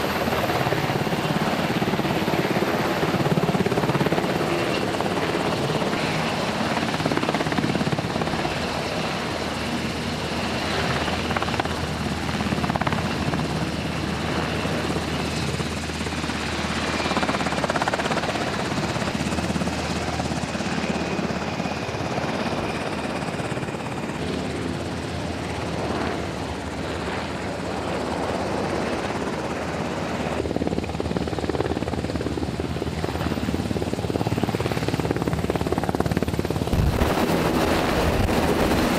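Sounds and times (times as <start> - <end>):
helicopter rotor beat: 0.0 - 38.9
helicopter turbine noise: 0.0 - 38.9.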